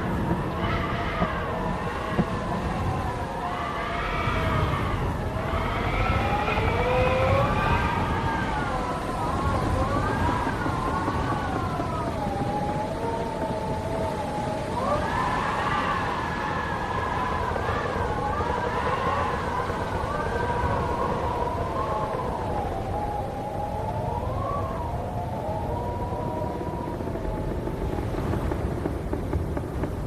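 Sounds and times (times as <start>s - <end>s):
low rumble of gusts: 0.0s - 30.0s
wind howling with whistling tones: 0.0s - 30.0s.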